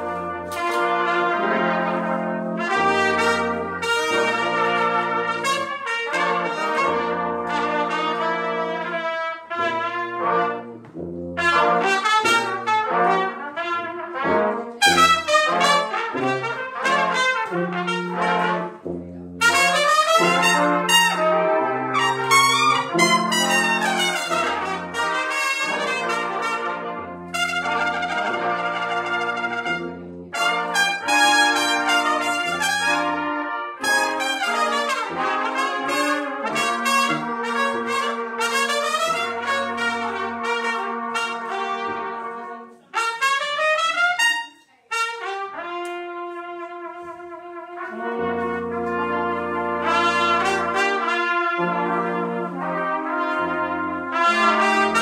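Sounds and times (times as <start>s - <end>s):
tuba bass line: 0.0s - 44.5s, 45.1s - 55.0s
brass ensemble playing: 0.0s - 55.0s.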